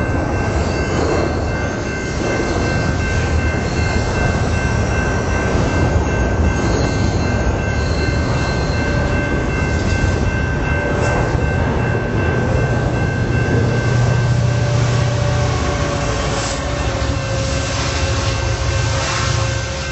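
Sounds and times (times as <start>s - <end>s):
diesel locomotive engine rumble: 0.0s - 19.9s
train wheels on rails: 0.0s - 19.9s.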